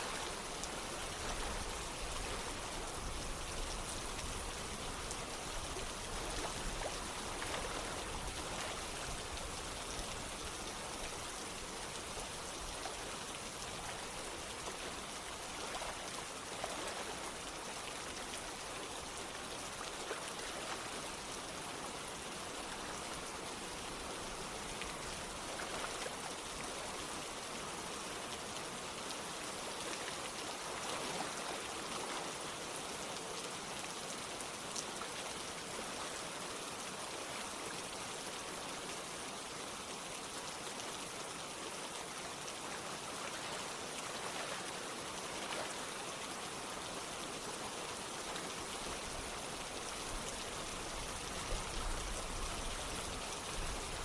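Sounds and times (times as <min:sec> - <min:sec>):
running water: 0:00.0 - 0:54.0
steady rain: 0:00.0 - 0:54.0.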